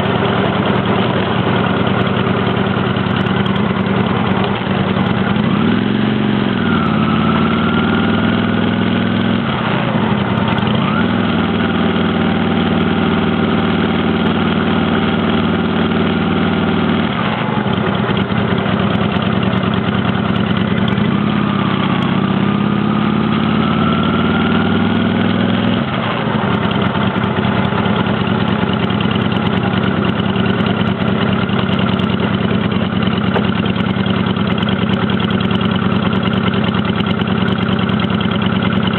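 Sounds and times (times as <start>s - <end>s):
motorcycle engine changing gear: 0.0s - 38.9s.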